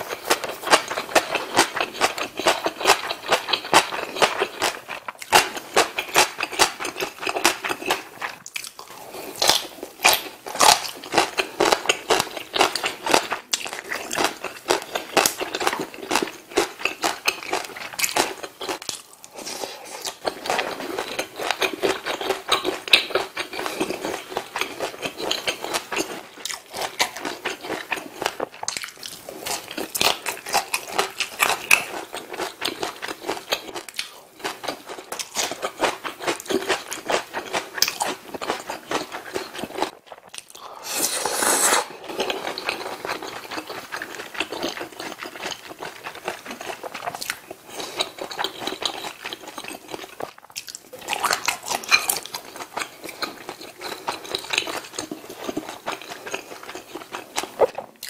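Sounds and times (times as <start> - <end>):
wet chewing and smacking: 0.0 - 19.4, 20.0 - 40.7, 42.0 - 58.0.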